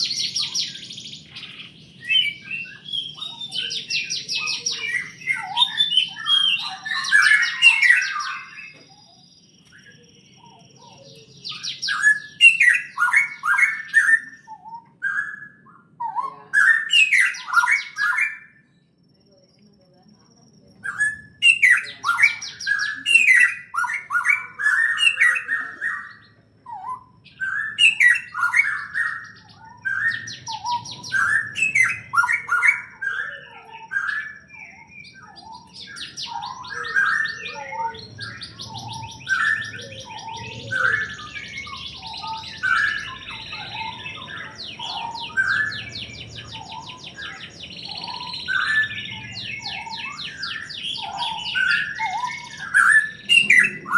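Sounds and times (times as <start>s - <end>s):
high bird trills: 0.0s - 18.7s, 20.6s - 53.9s
birds chirping: 0.0s - 53.9s.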